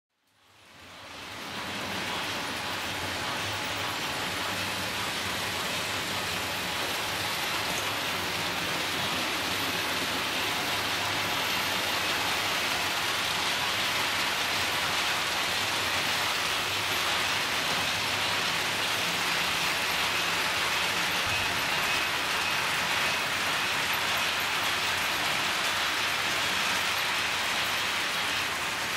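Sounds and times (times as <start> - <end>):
metal wheels rolling on track: 0.8 - 28.9.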